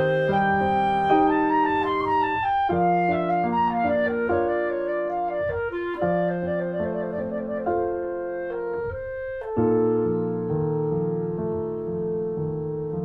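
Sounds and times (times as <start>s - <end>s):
instrumental chords with melody: 0.0s - 13.0s.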